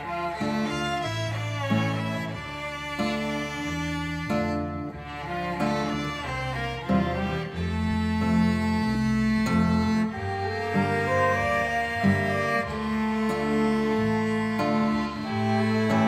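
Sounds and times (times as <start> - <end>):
lower bowed strings: 0.0 - 16.0
violin ensemble playing slow melody: 0.0 - 16.0.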